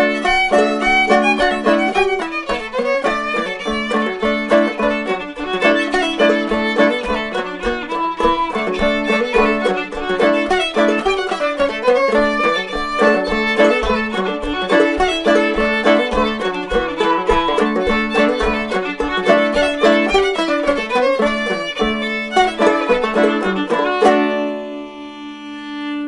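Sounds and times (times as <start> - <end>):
banjo plucking: 0.0 - 26.0
fiddle playing: 0.0 - 26.0.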